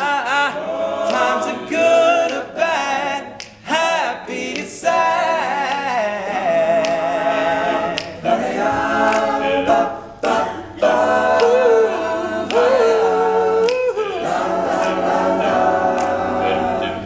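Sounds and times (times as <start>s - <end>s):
male a cappella group singing: 0.0s - 17.0s.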